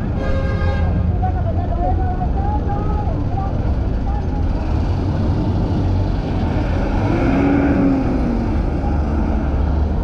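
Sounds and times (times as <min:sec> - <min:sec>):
bus engine running close by: 0:00.0 - 0:10.0
city street traffic: 0:00.0 - 0:10.0.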